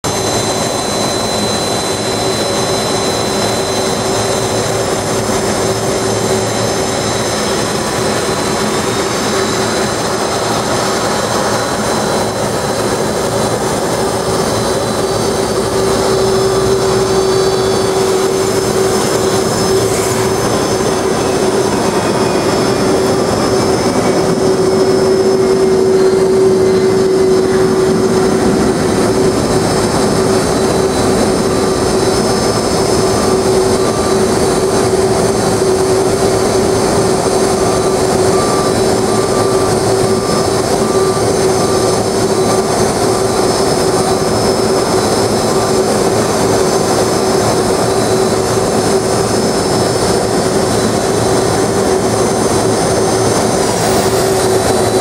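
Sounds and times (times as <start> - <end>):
jet engines whining and rumbling: 0.0 - 55.0.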